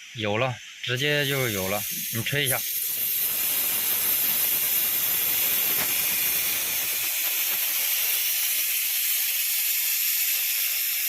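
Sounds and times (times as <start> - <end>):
compressed air blow gun hissing: 1.0 - 11.0.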